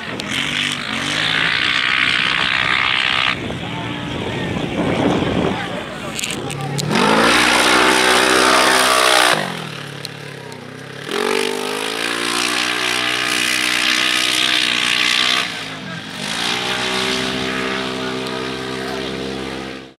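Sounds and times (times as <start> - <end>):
buggy engine revving past: 0.0 - 3.8, 6.7 - 20.0.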